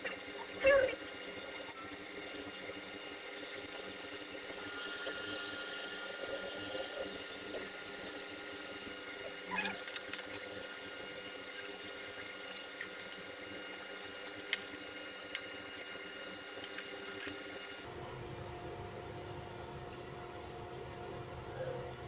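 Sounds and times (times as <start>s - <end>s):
food sizzling in hot oil: 0.0s - 17.9s.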